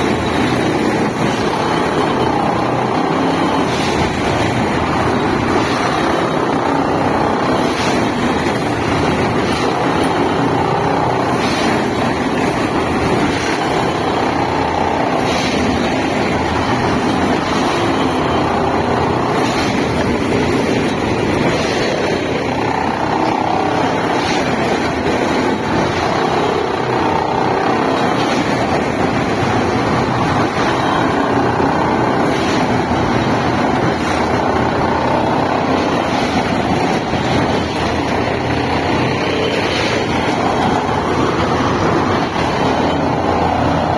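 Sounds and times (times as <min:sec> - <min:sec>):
machine engine running loudly: 0:00.0 - 0:43.9.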